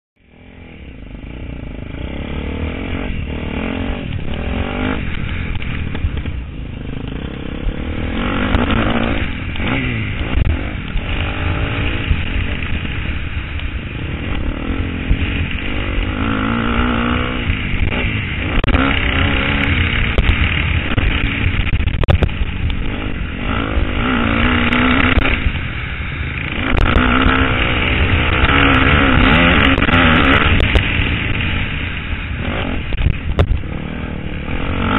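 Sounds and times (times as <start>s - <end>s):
motocross engine revving: 0.3s - 34.9s.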